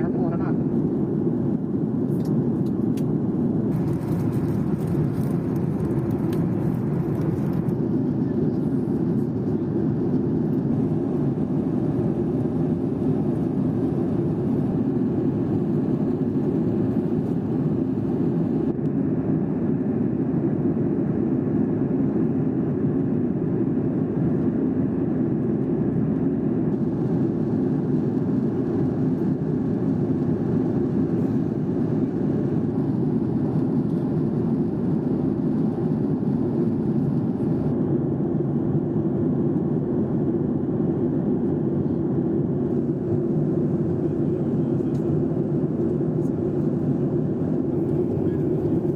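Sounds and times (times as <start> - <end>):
jet engines rushing: 0.0 - 48.9.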